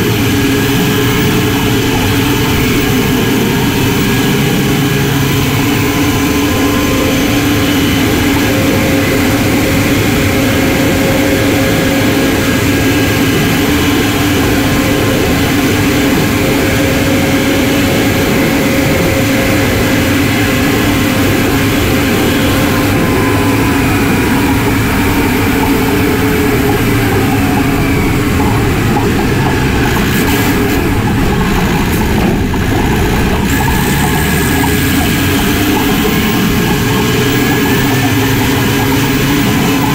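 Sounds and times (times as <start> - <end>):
diesel engine drone: 0.0 - 39.9
turbocharger whine: 0.0 - 39.9.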